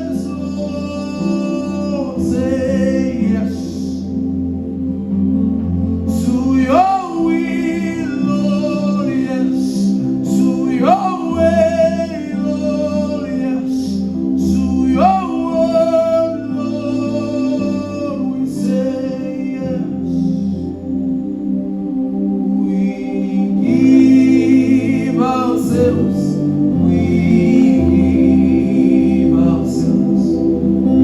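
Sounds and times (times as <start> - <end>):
person singing gospel song: 0.0 - 31.0.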